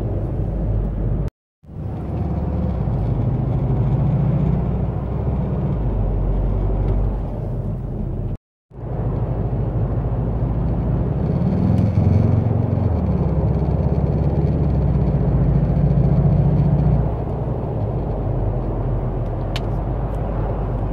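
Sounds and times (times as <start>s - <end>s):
car cabin engine and road noise: 0.0s - 20.9s.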